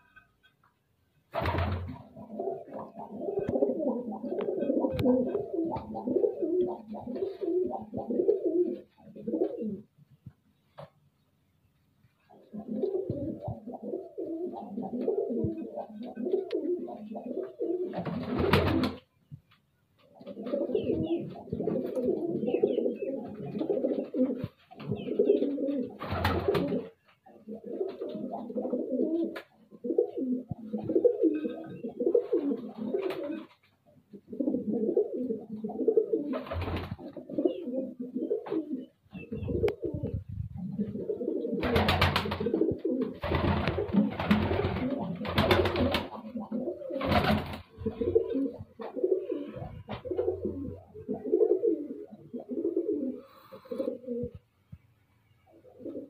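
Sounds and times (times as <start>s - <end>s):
pigeons cooing: 1.4s - 9.9s, 12.2s - 19.0s, 20.1s - 54.4s, 55.5s - 56.0s.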